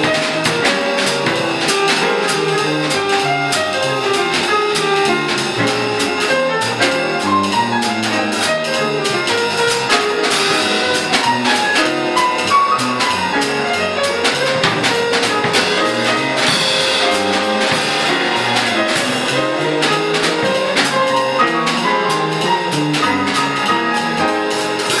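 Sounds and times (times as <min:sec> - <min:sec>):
bass: 0:00.0 - 0:25.0
drum kit with sticks: 0:00.0 - 0:25.0
upright piano melodic lines: 0:00.0 - 0:25.0.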